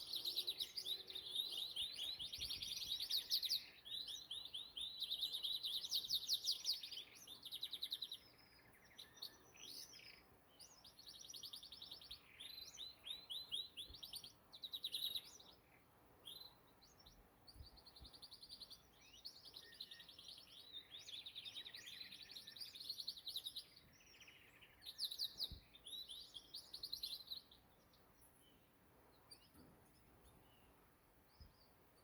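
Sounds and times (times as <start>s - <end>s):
canary trills and chirps: 0.0s - 32.0s.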